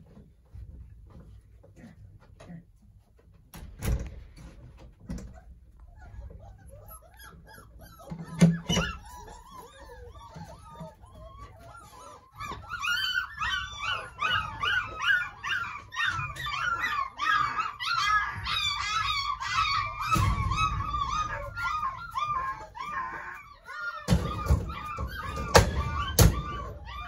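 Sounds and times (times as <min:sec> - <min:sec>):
puppies whining and yelping: 0:05.0 - 0:27.0.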